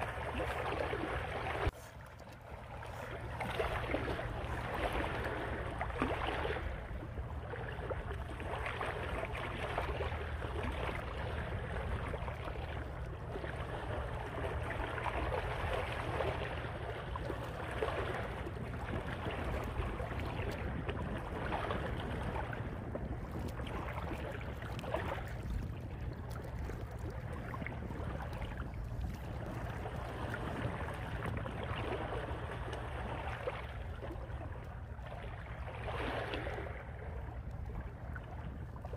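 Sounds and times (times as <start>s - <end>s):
wind on microphone: 0.0s - 1.9s, 2.5s - 38.9s
water lapping against rocks: 0.0s - 38.9s.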